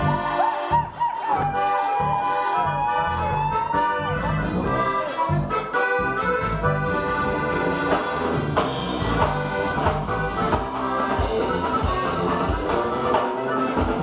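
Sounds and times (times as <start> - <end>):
accordion melody: 0.0 - 14.0
guitar: 0.0 - 14.0
drum kit: 1.0 - 14.0.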